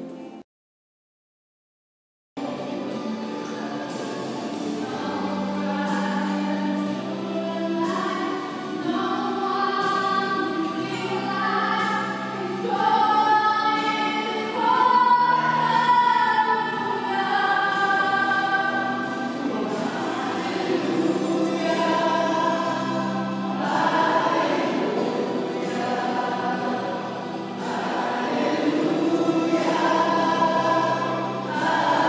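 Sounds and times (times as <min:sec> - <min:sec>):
group singing a hymn: 0:02.4 - 0:32.0.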